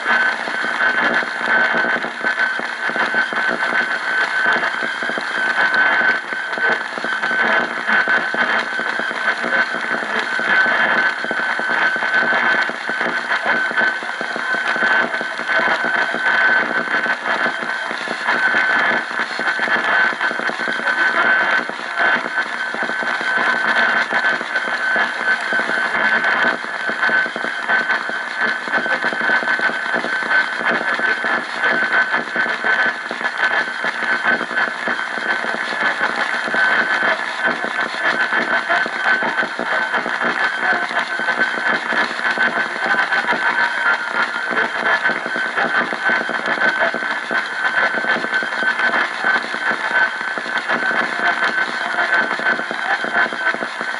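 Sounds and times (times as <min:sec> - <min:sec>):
radio static and interference: 0:00.0 - 0:53.9.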